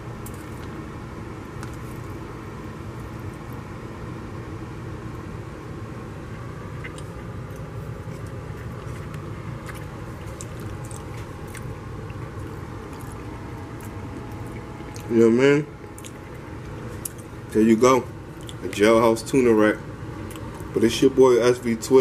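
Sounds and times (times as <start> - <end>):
low background rumble: 0.0 - 21.8.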